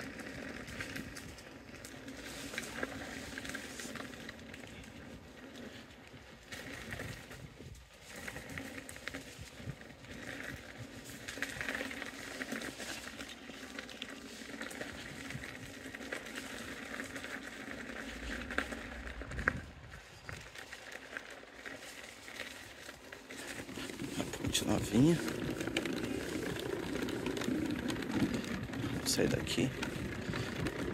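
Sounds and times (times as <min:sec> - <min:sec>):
tyre crunching over gravel: 0:00.0 - 0:30.9.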